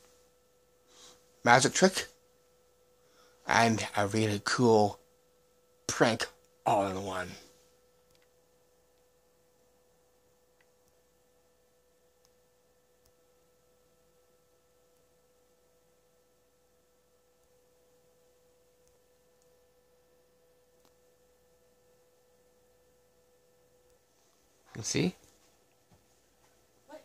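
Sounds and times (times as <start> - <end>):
faint steady tone: 0.0 - 27.0.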